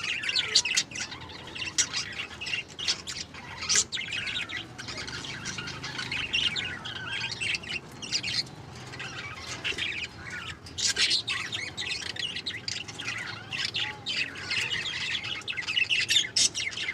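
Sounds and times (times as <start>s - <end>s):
parrots chirping and squawking: 0.0s - 16.9s.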